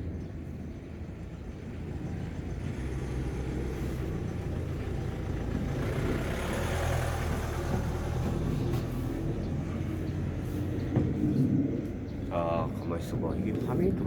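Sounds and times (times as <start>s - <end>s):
motor vehicle passing by: 1.2s - 14.0s.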